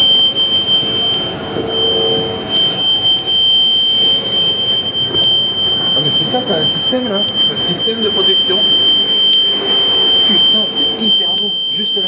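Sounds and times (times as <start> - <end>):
high-pitched electrical whine: 0.0 - 12.0.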